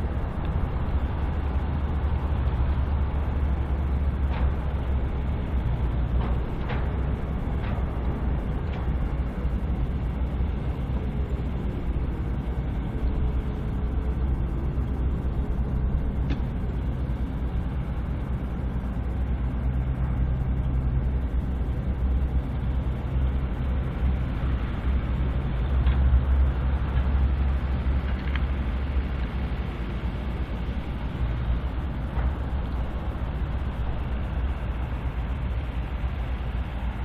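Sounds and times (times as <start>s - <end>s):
diesel freight train rumble: 0.0s - 37.0s.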